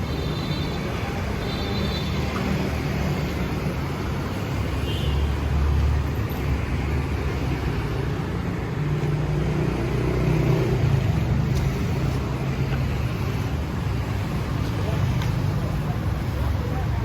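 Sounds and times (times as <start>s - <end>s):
passing vehicle engines: 2.2s - 17.0s.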